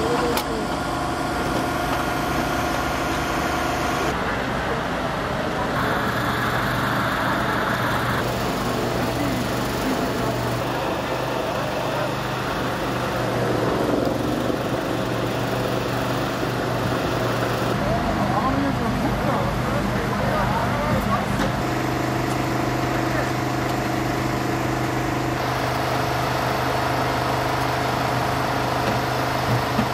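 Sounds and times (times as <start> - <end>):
engines and equipment humming: 0.0 - 29.9.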